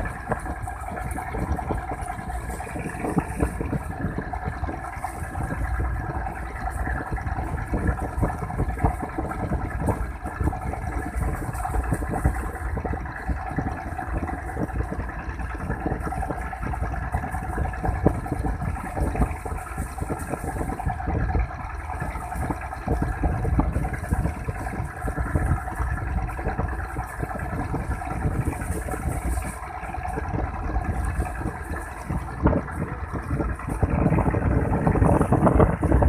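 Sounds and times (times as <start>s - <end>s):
motor running steadily: 0.0s - 36.0s
wind buffeting microphone: 0.0s - 36.0s.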